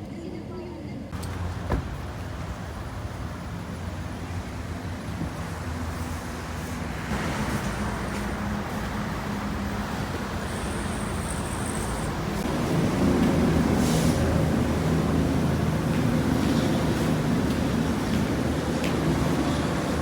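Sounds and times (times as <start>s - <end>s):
low engine hum: 1.1s - 20.0s
road and traffic noise: 1.1s - 20.0s.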